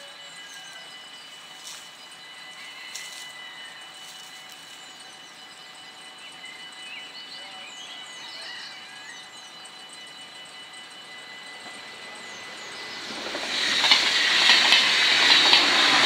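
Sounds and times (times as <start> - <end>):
level crossing warning bells: 0.0 - 16.0.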